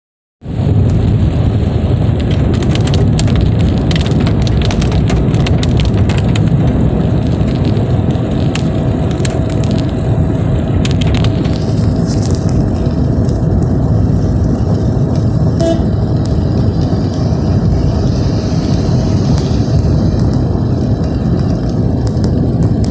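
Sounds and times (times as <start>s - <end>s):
engine and tyres rumbling: 0.4s - 22.9s
raindrops hitting car windshield: 0.5s - 22.9s.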